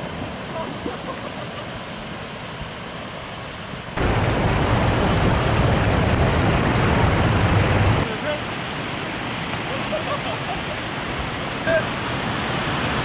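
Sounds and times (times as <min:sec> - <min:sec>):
water rushing over weir: 0:00.0 - 0:13.0.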